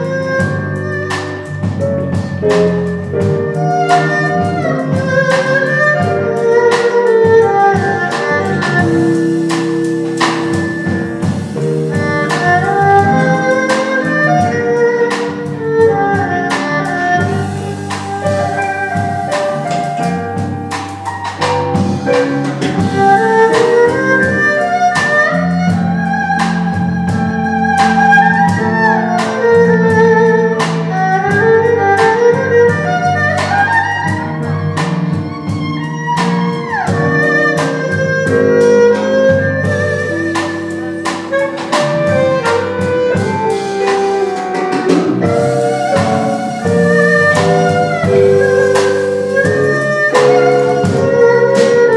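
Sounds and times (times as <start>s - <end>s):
drum and cymbal strikes: 0.0s - 51.9s
keyboard music: 0.0s - 51.9s
slow instrumental melody: 0.0s - 51.9s.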